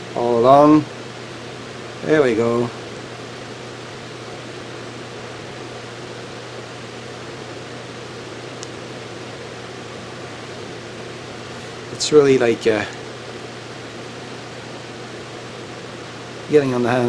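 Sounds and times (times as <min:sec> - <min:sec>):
background hiss: 0:00.0 - 0:17.0
low fan hum: 0:00.0 - 0:17.0.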